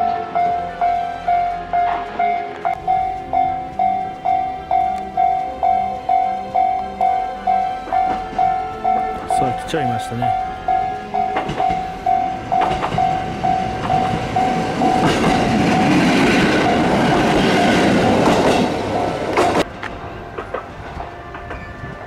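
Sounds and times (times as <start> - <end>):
level-crossing bell dinging: 0.0 - 19.6
railcar wheels clattering: 0.0 - 22.0.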